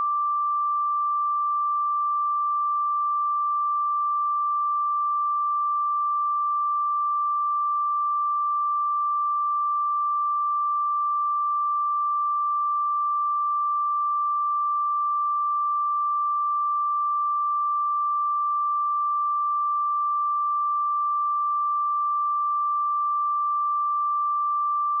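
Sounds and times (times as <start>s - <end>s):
sine-wave test tone: 0.0s - 25.0s.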